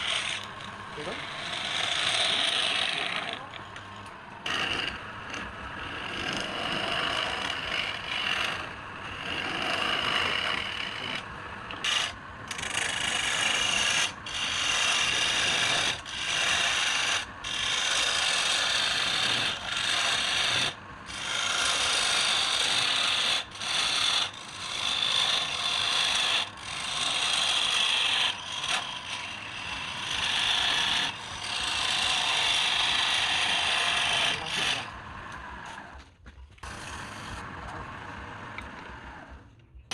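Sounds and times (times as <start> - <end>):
lathe scraping wood: 0.0 - 39.4.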